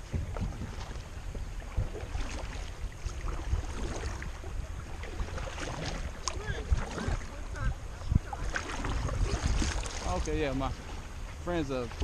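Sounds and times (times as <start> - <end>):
shallow river water washing: 0.0 - 12.0
wind rumbling on microphone: 0.0 - 12.0.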